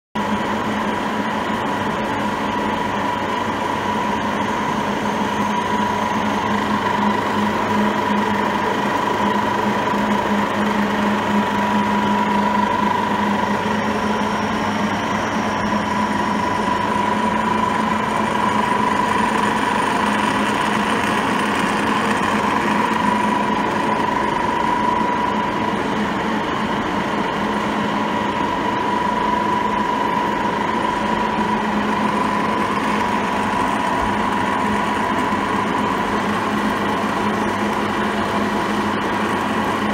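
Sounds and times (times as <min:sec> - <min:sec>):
high even whine: 0:00.2 - 0:39.9
milling machine hum: 0:00.2 - 0:39.9.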